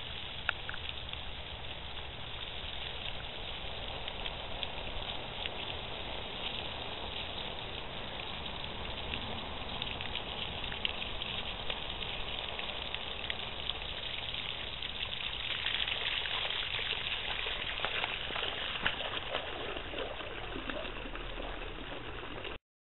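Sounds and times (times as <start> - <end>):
water gushing and splashing: 0.0 - 22.6.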